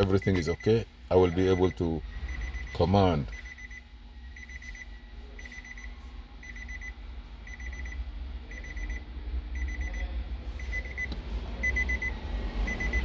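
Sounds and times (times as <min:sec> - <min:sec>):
electronic warning beeper: 0:00.0 - 0:09.0, 0:09.6 - 0:13.0
steady low rumble: 0:00.0 - 0:13.0.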